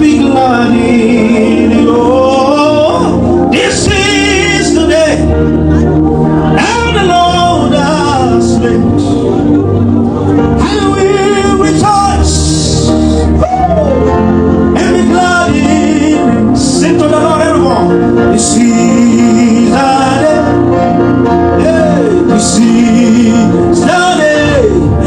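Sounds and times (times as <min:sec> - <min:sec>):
live band with guitar and bass: 0:00.0 - 0:25.0.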